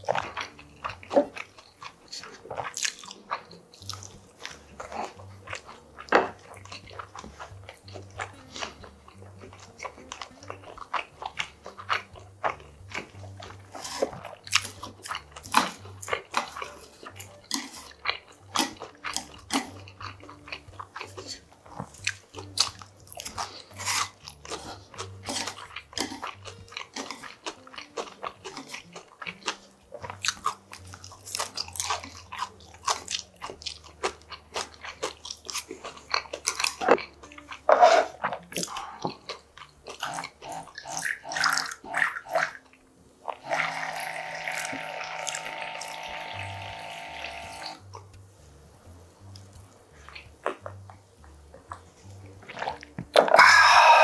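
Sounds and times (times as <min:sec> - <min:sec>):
crunching and chewing: 0:00.0 - 0:48.2, 0:48.8 - 0:54.0.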